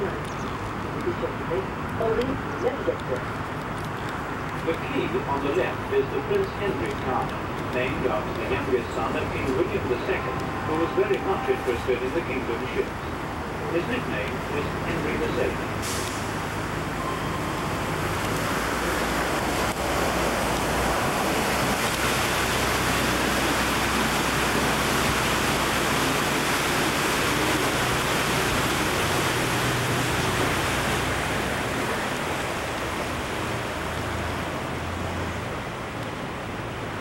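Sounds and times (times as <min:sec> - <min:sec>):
boat engine hum: 0:00.0 - 0:37.0
water wash rushing: 0:00.0 - 0:37.0.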